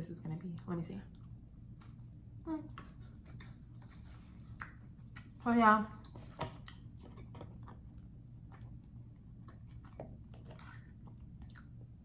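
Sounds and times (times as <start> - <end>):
person chewing food: 1.2 - 5.4, 6.0 - 12.0.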